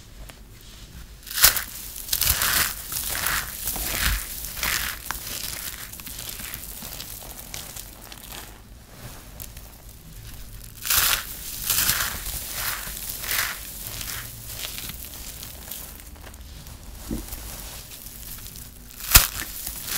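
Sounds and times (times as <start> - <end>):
crispy soap crunching in hands: 1.2 - 19.9.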